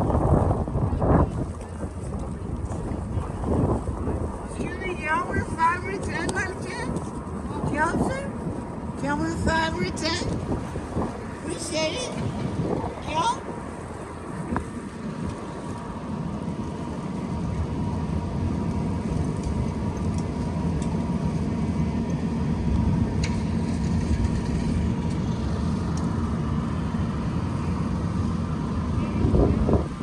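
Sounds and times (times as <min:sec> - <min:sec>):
large vehicle engine rumbling: 0:00.0 - 0:30.0.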